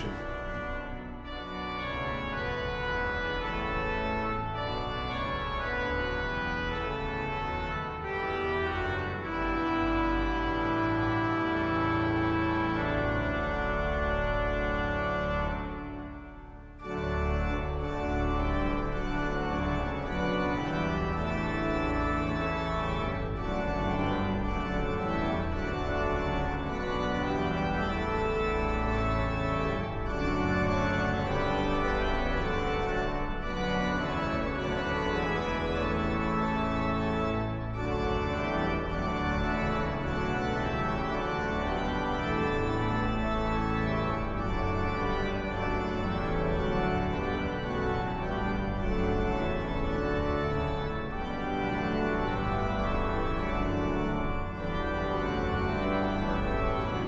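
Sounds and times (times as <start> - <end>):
organ chords: 0.0 - 57.0.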